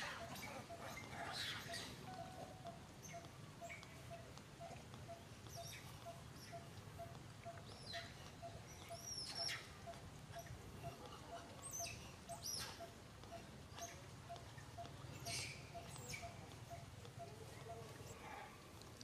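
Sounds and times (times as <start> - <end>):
faint steady ticking: 0.0 - 19.0.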